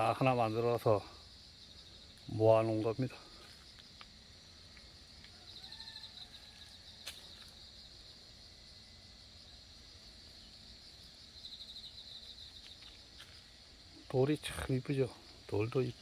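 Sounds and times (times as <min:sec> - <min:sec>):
insects chirring: 0:00.0 - 0:16.0
rapid pulsed insect trills: 0:00.0 - 0:16.0.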